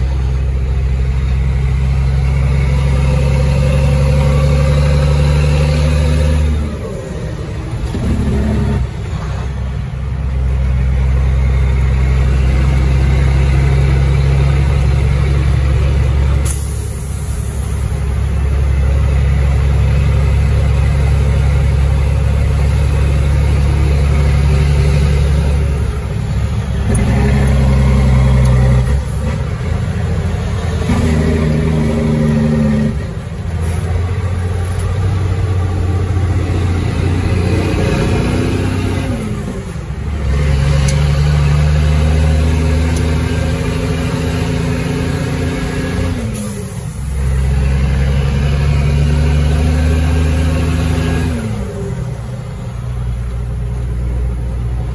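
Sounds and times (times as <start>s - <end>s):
diesel truck engine shifting gears: 0.0s - 54.9s.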